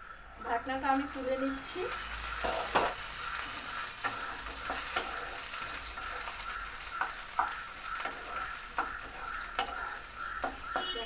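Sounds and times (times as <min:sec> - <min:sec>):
potato sticks sizzling in oil: 0:00.4 - 0:11.0
spatula scraping and tapping pan: 0:01.9 - 0:11.0.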